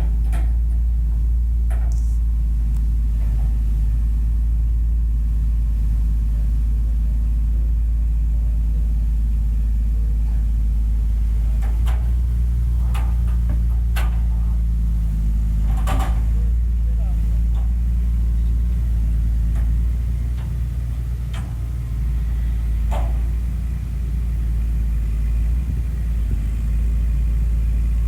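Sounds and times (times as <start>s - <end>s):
excavator diesel engine rumbling: 0.0s - 28.0s.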